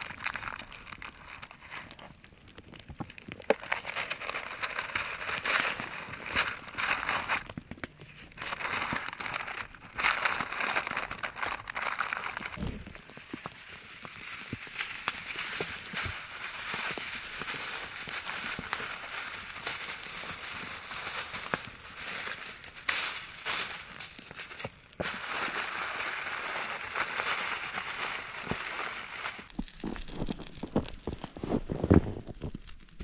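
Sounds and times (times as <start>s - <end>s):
aluminium foil crinkling: 0.0s - 33.0s.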